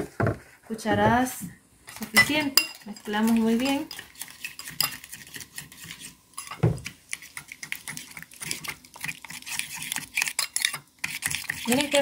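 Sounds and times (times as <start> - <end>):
utensil clinking against bowl: 1.9 - 12.0
utensil stirring in ceramic bowl: 1.9 - 12.0.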